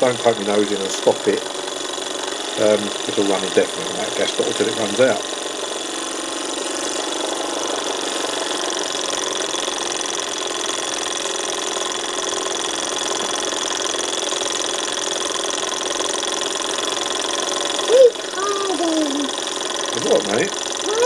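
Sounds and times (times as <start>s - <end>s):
hot air engine running: 0.0s - 21.0s.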